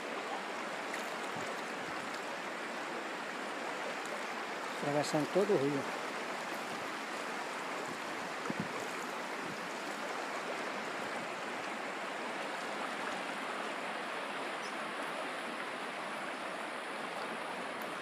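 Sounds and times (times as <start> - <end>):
river water running over rocks: 0.0 - 18.0.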